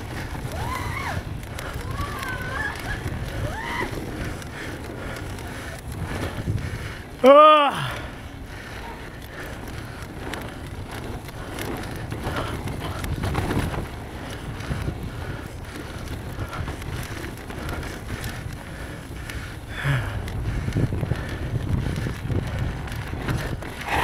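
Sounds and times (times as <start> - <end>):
bike rattles and clicks: 0.0 - 24.0
bike tyres rumbling over dirt: 0.0 - 24.0
wind buffeting microphone: 0.0 - 24.0.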